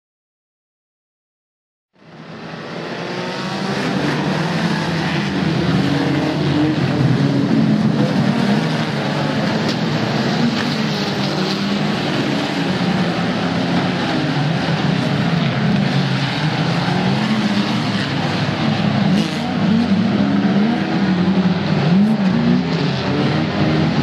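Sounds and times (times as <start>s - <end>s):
racing car engines revving: 2.0s - 24.0s.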